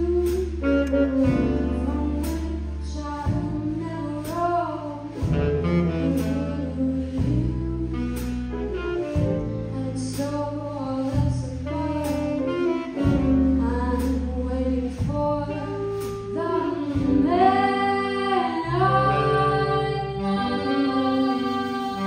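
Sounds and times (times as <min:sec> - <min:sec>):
bass: 0:00.0 - 0:22.0
drums: 0:00.0 - 0:22.0
piano: 0:00.0 - 0:22.0
saxophone: 0:00.0 - 0:22.0
woman singing: 0:00.0 - 0:22.0.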